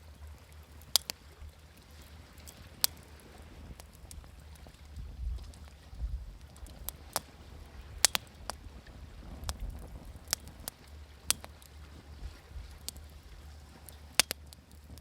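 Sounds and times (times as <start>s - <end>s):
wood fire crackling and popping: 0.4s - 1.2s, 1.9s - 15.0s.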